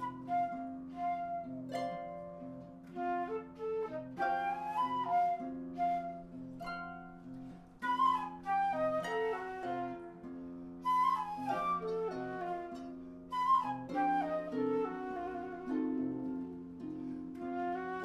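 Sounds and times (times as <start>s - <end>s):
flute melody: 0.0s - 18.0s.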